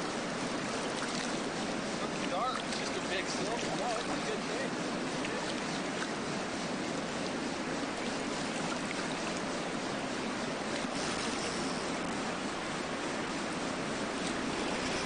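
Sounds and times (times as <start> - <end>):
fast river water rushing: 0.0 - 15.0.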